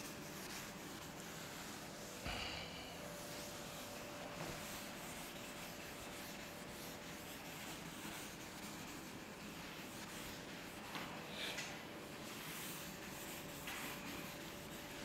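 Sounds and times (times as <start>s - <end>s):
cloth rubbing on chalkboard: 0.0s - 2.4s, 3.0s - 15.0s.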